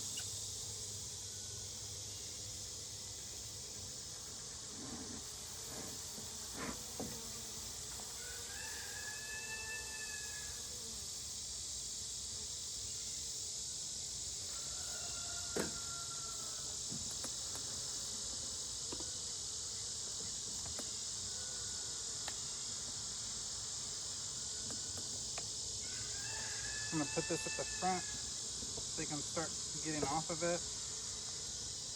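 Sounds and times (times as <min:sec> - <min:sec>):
insects shrilling: 0:00.0 - 0:31.9.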